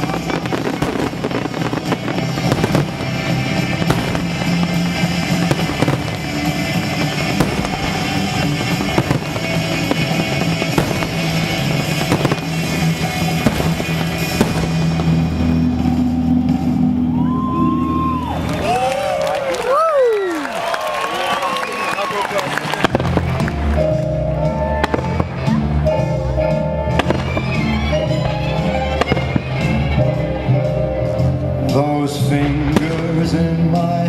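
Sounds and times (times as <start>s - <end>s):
fireworks bangs and crackles: 0.0s - 17.2s, 21.2s - 34.0s
music playing: 0.0s - 19.5s, 22.7s - 34.0s.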